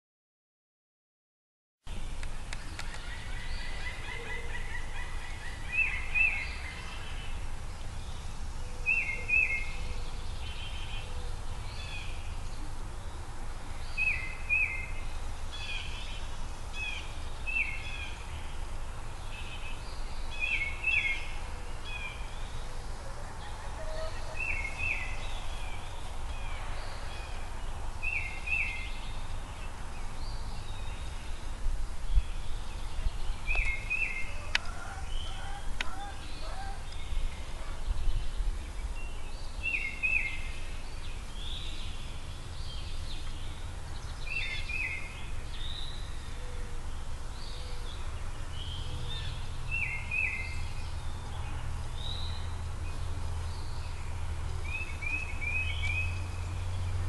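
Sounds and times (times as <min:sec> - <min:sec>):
bird chirping: 0:01.9 - 0:57.0.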